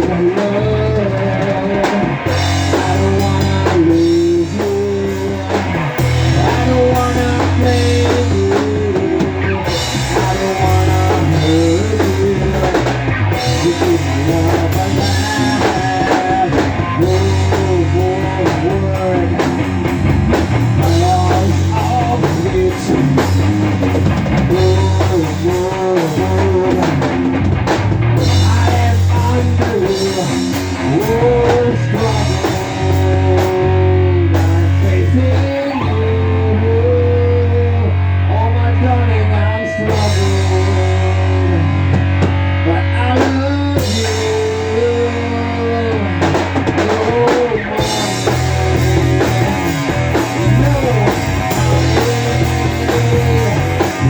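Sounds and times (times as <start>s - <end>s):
drum kit: 0.0s - 37.6s, 39.8s - 54.0s
electric guitar: 0.0s - 54.0s.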